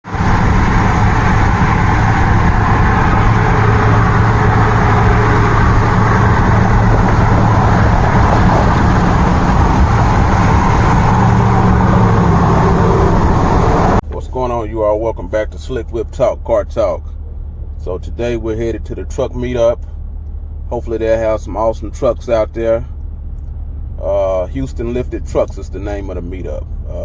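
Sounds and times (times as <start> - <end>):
vehicle engine drone: 0.0 - 27.0.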